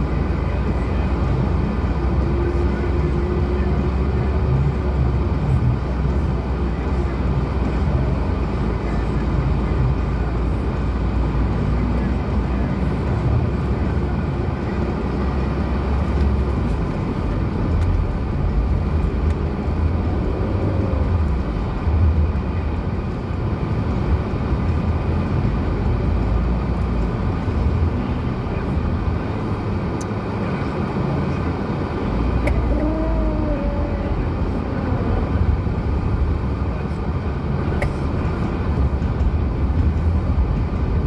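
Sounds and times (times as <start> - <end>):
car engine low hum: 0.0 - 41.0
road rumble: 0.0 - 41.0.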